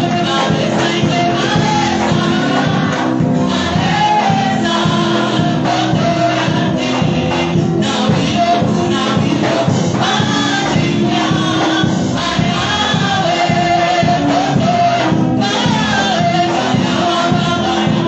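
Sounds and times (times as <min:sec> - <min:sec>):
steady beat: 0:00.0 - 0:18.0
women's choir singing gospel: 0:00.0 - 0:18.0.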